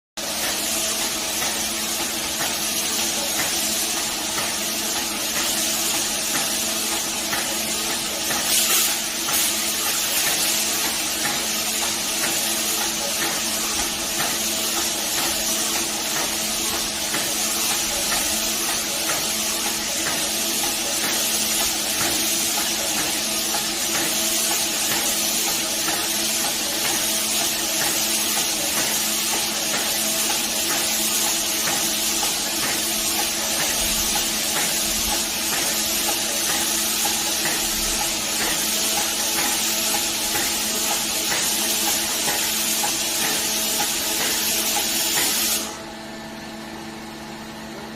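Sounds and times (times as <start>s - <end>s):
paint spray hissing: 0.5s - 45.8s.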